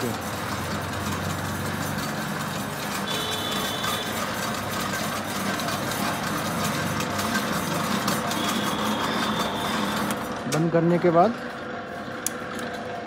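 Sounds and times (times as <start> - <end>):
food mixers humming: 0.0 - 13.0.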